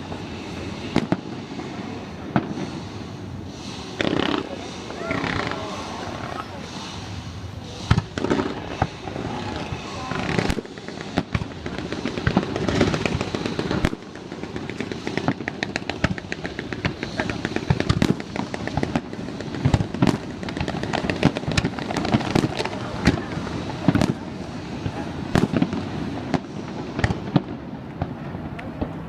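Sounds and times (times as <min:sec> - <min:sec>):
firework crackling: 0:00.0 - 0:29.0.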